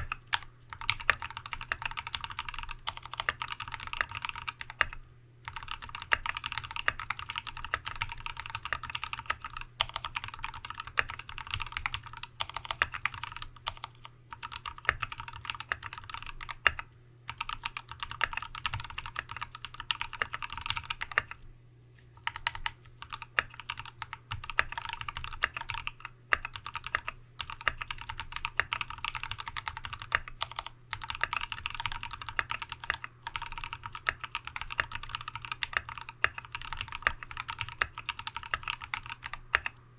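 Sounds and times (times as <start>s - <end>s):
fast typing on mechanical keyboard: 0.0s - 21.4s, 22.2s - 39.8s.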